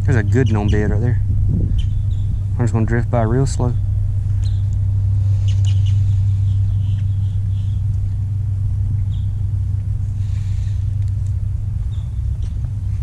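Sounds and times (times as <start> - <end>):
electric boat motor humming: 0.0 - 13.0.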